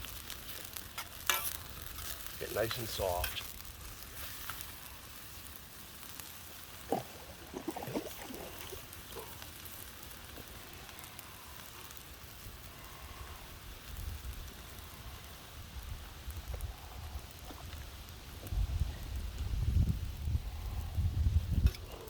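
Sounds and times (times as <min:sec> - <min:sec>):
food sizzling in a pan: 0:00.0 - 0:21.8.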